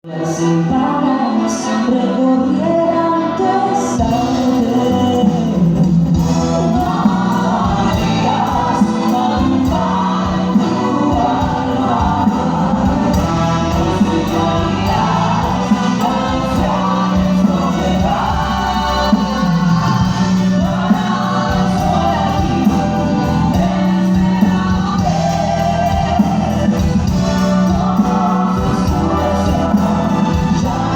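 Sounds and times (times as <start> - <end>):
voices singing together: 0.0 - 30.9.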